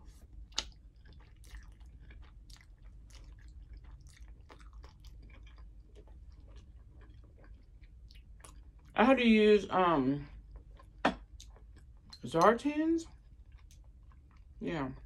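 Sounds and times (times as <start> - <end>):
person chewing with wet clicks: 0.0 - 9.0, 10.3 - 15.0.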